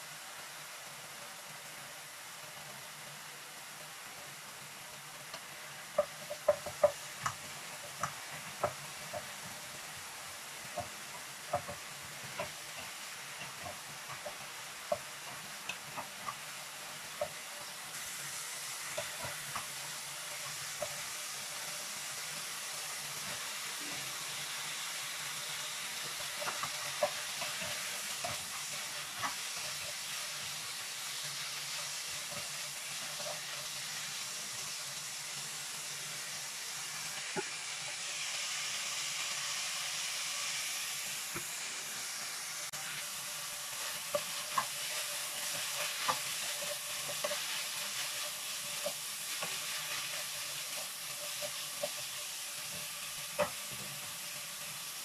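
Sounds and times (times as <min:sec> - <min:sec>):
meat sizzling in oil: 0:00.0 - 0:55.0.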